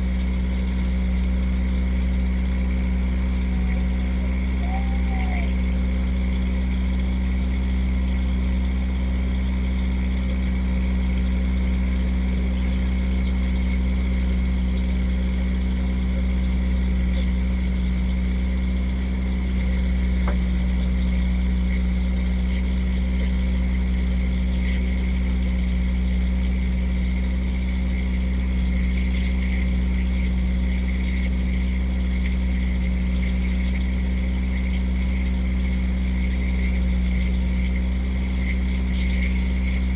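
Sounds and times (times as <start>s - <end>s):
motorboat engine humming: 0.0s - 39.9s.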